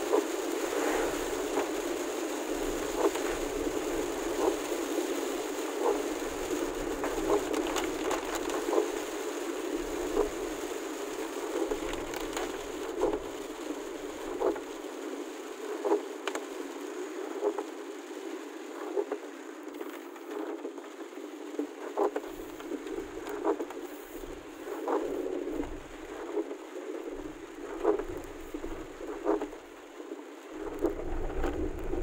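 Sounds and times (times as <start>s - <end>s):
raindrops ticking: 0.0s - 18.0s, 18.7s - 32.0s
heavy rain on vehicle: 0.0s - 32.0s.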